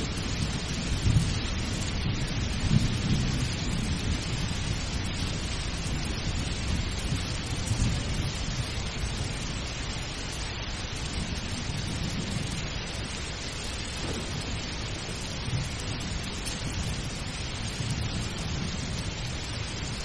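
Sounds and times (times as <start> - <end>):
low rumbling thunder: 0.0 - 10.2, 11.0 - 20.0
steady rain falling: 0.0 - 20.0.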